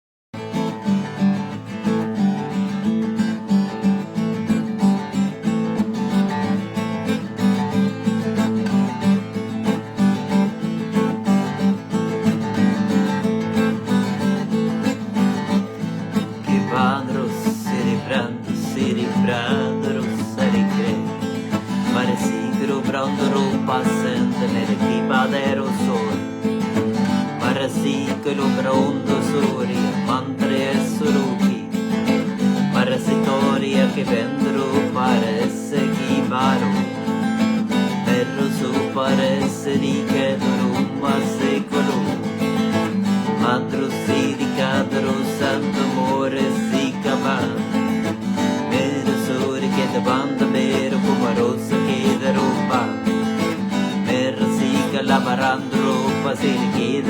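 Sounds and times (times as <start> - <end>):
acoustic guitar strummed: 0.4 - 57.0.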